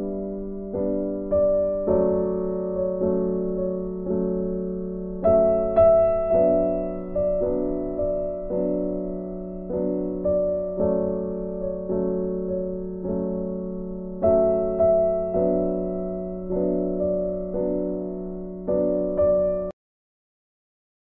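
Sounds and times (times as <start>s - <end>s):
piano chords: 0.0s - 19.8s.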